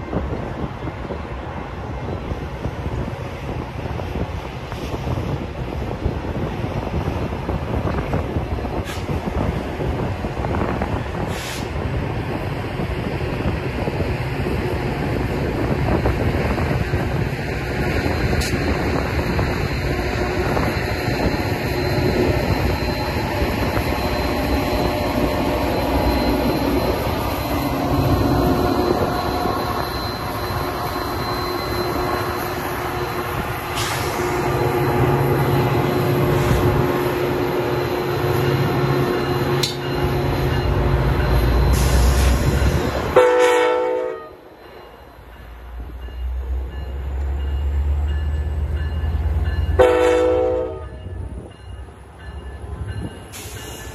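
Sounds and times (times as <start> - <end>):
diesel locomotive engine: 0.0 - 53.9
train wheels on rails: 0.0 - 53.9.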